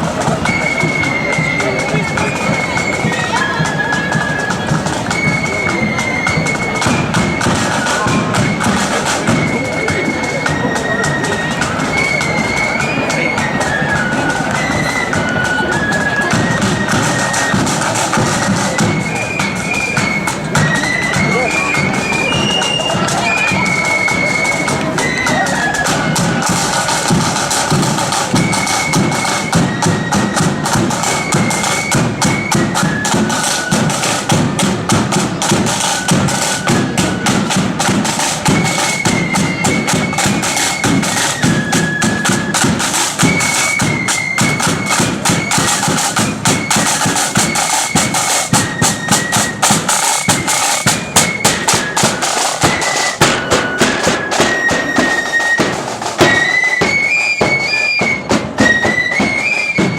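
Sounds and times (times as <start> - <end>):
flutes playing melody: 0.0 - 59.9
snare and bass drums beat: 0.0 - 59.9.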